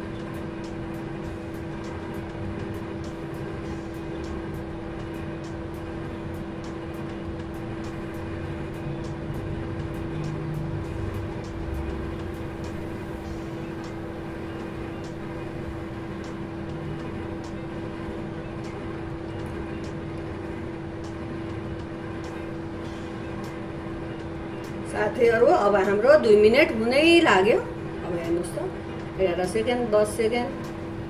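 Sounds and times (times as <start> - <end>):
microwave oven humming: 0.0 - 31.0.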